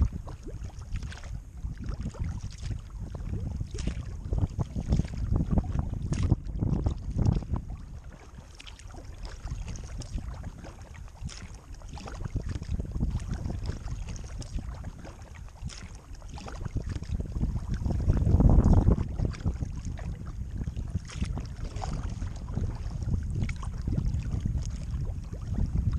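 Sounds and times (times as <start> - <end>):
paddle strokes splashing: 0.0 - 25.9
wind rumbling on microphone: 0.0 - 25.9.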